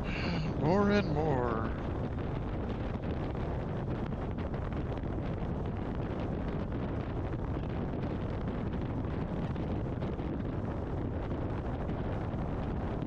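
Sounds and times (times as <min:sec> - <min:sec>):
wind buffeting a microphone: 0:00.0 - 0:13.0.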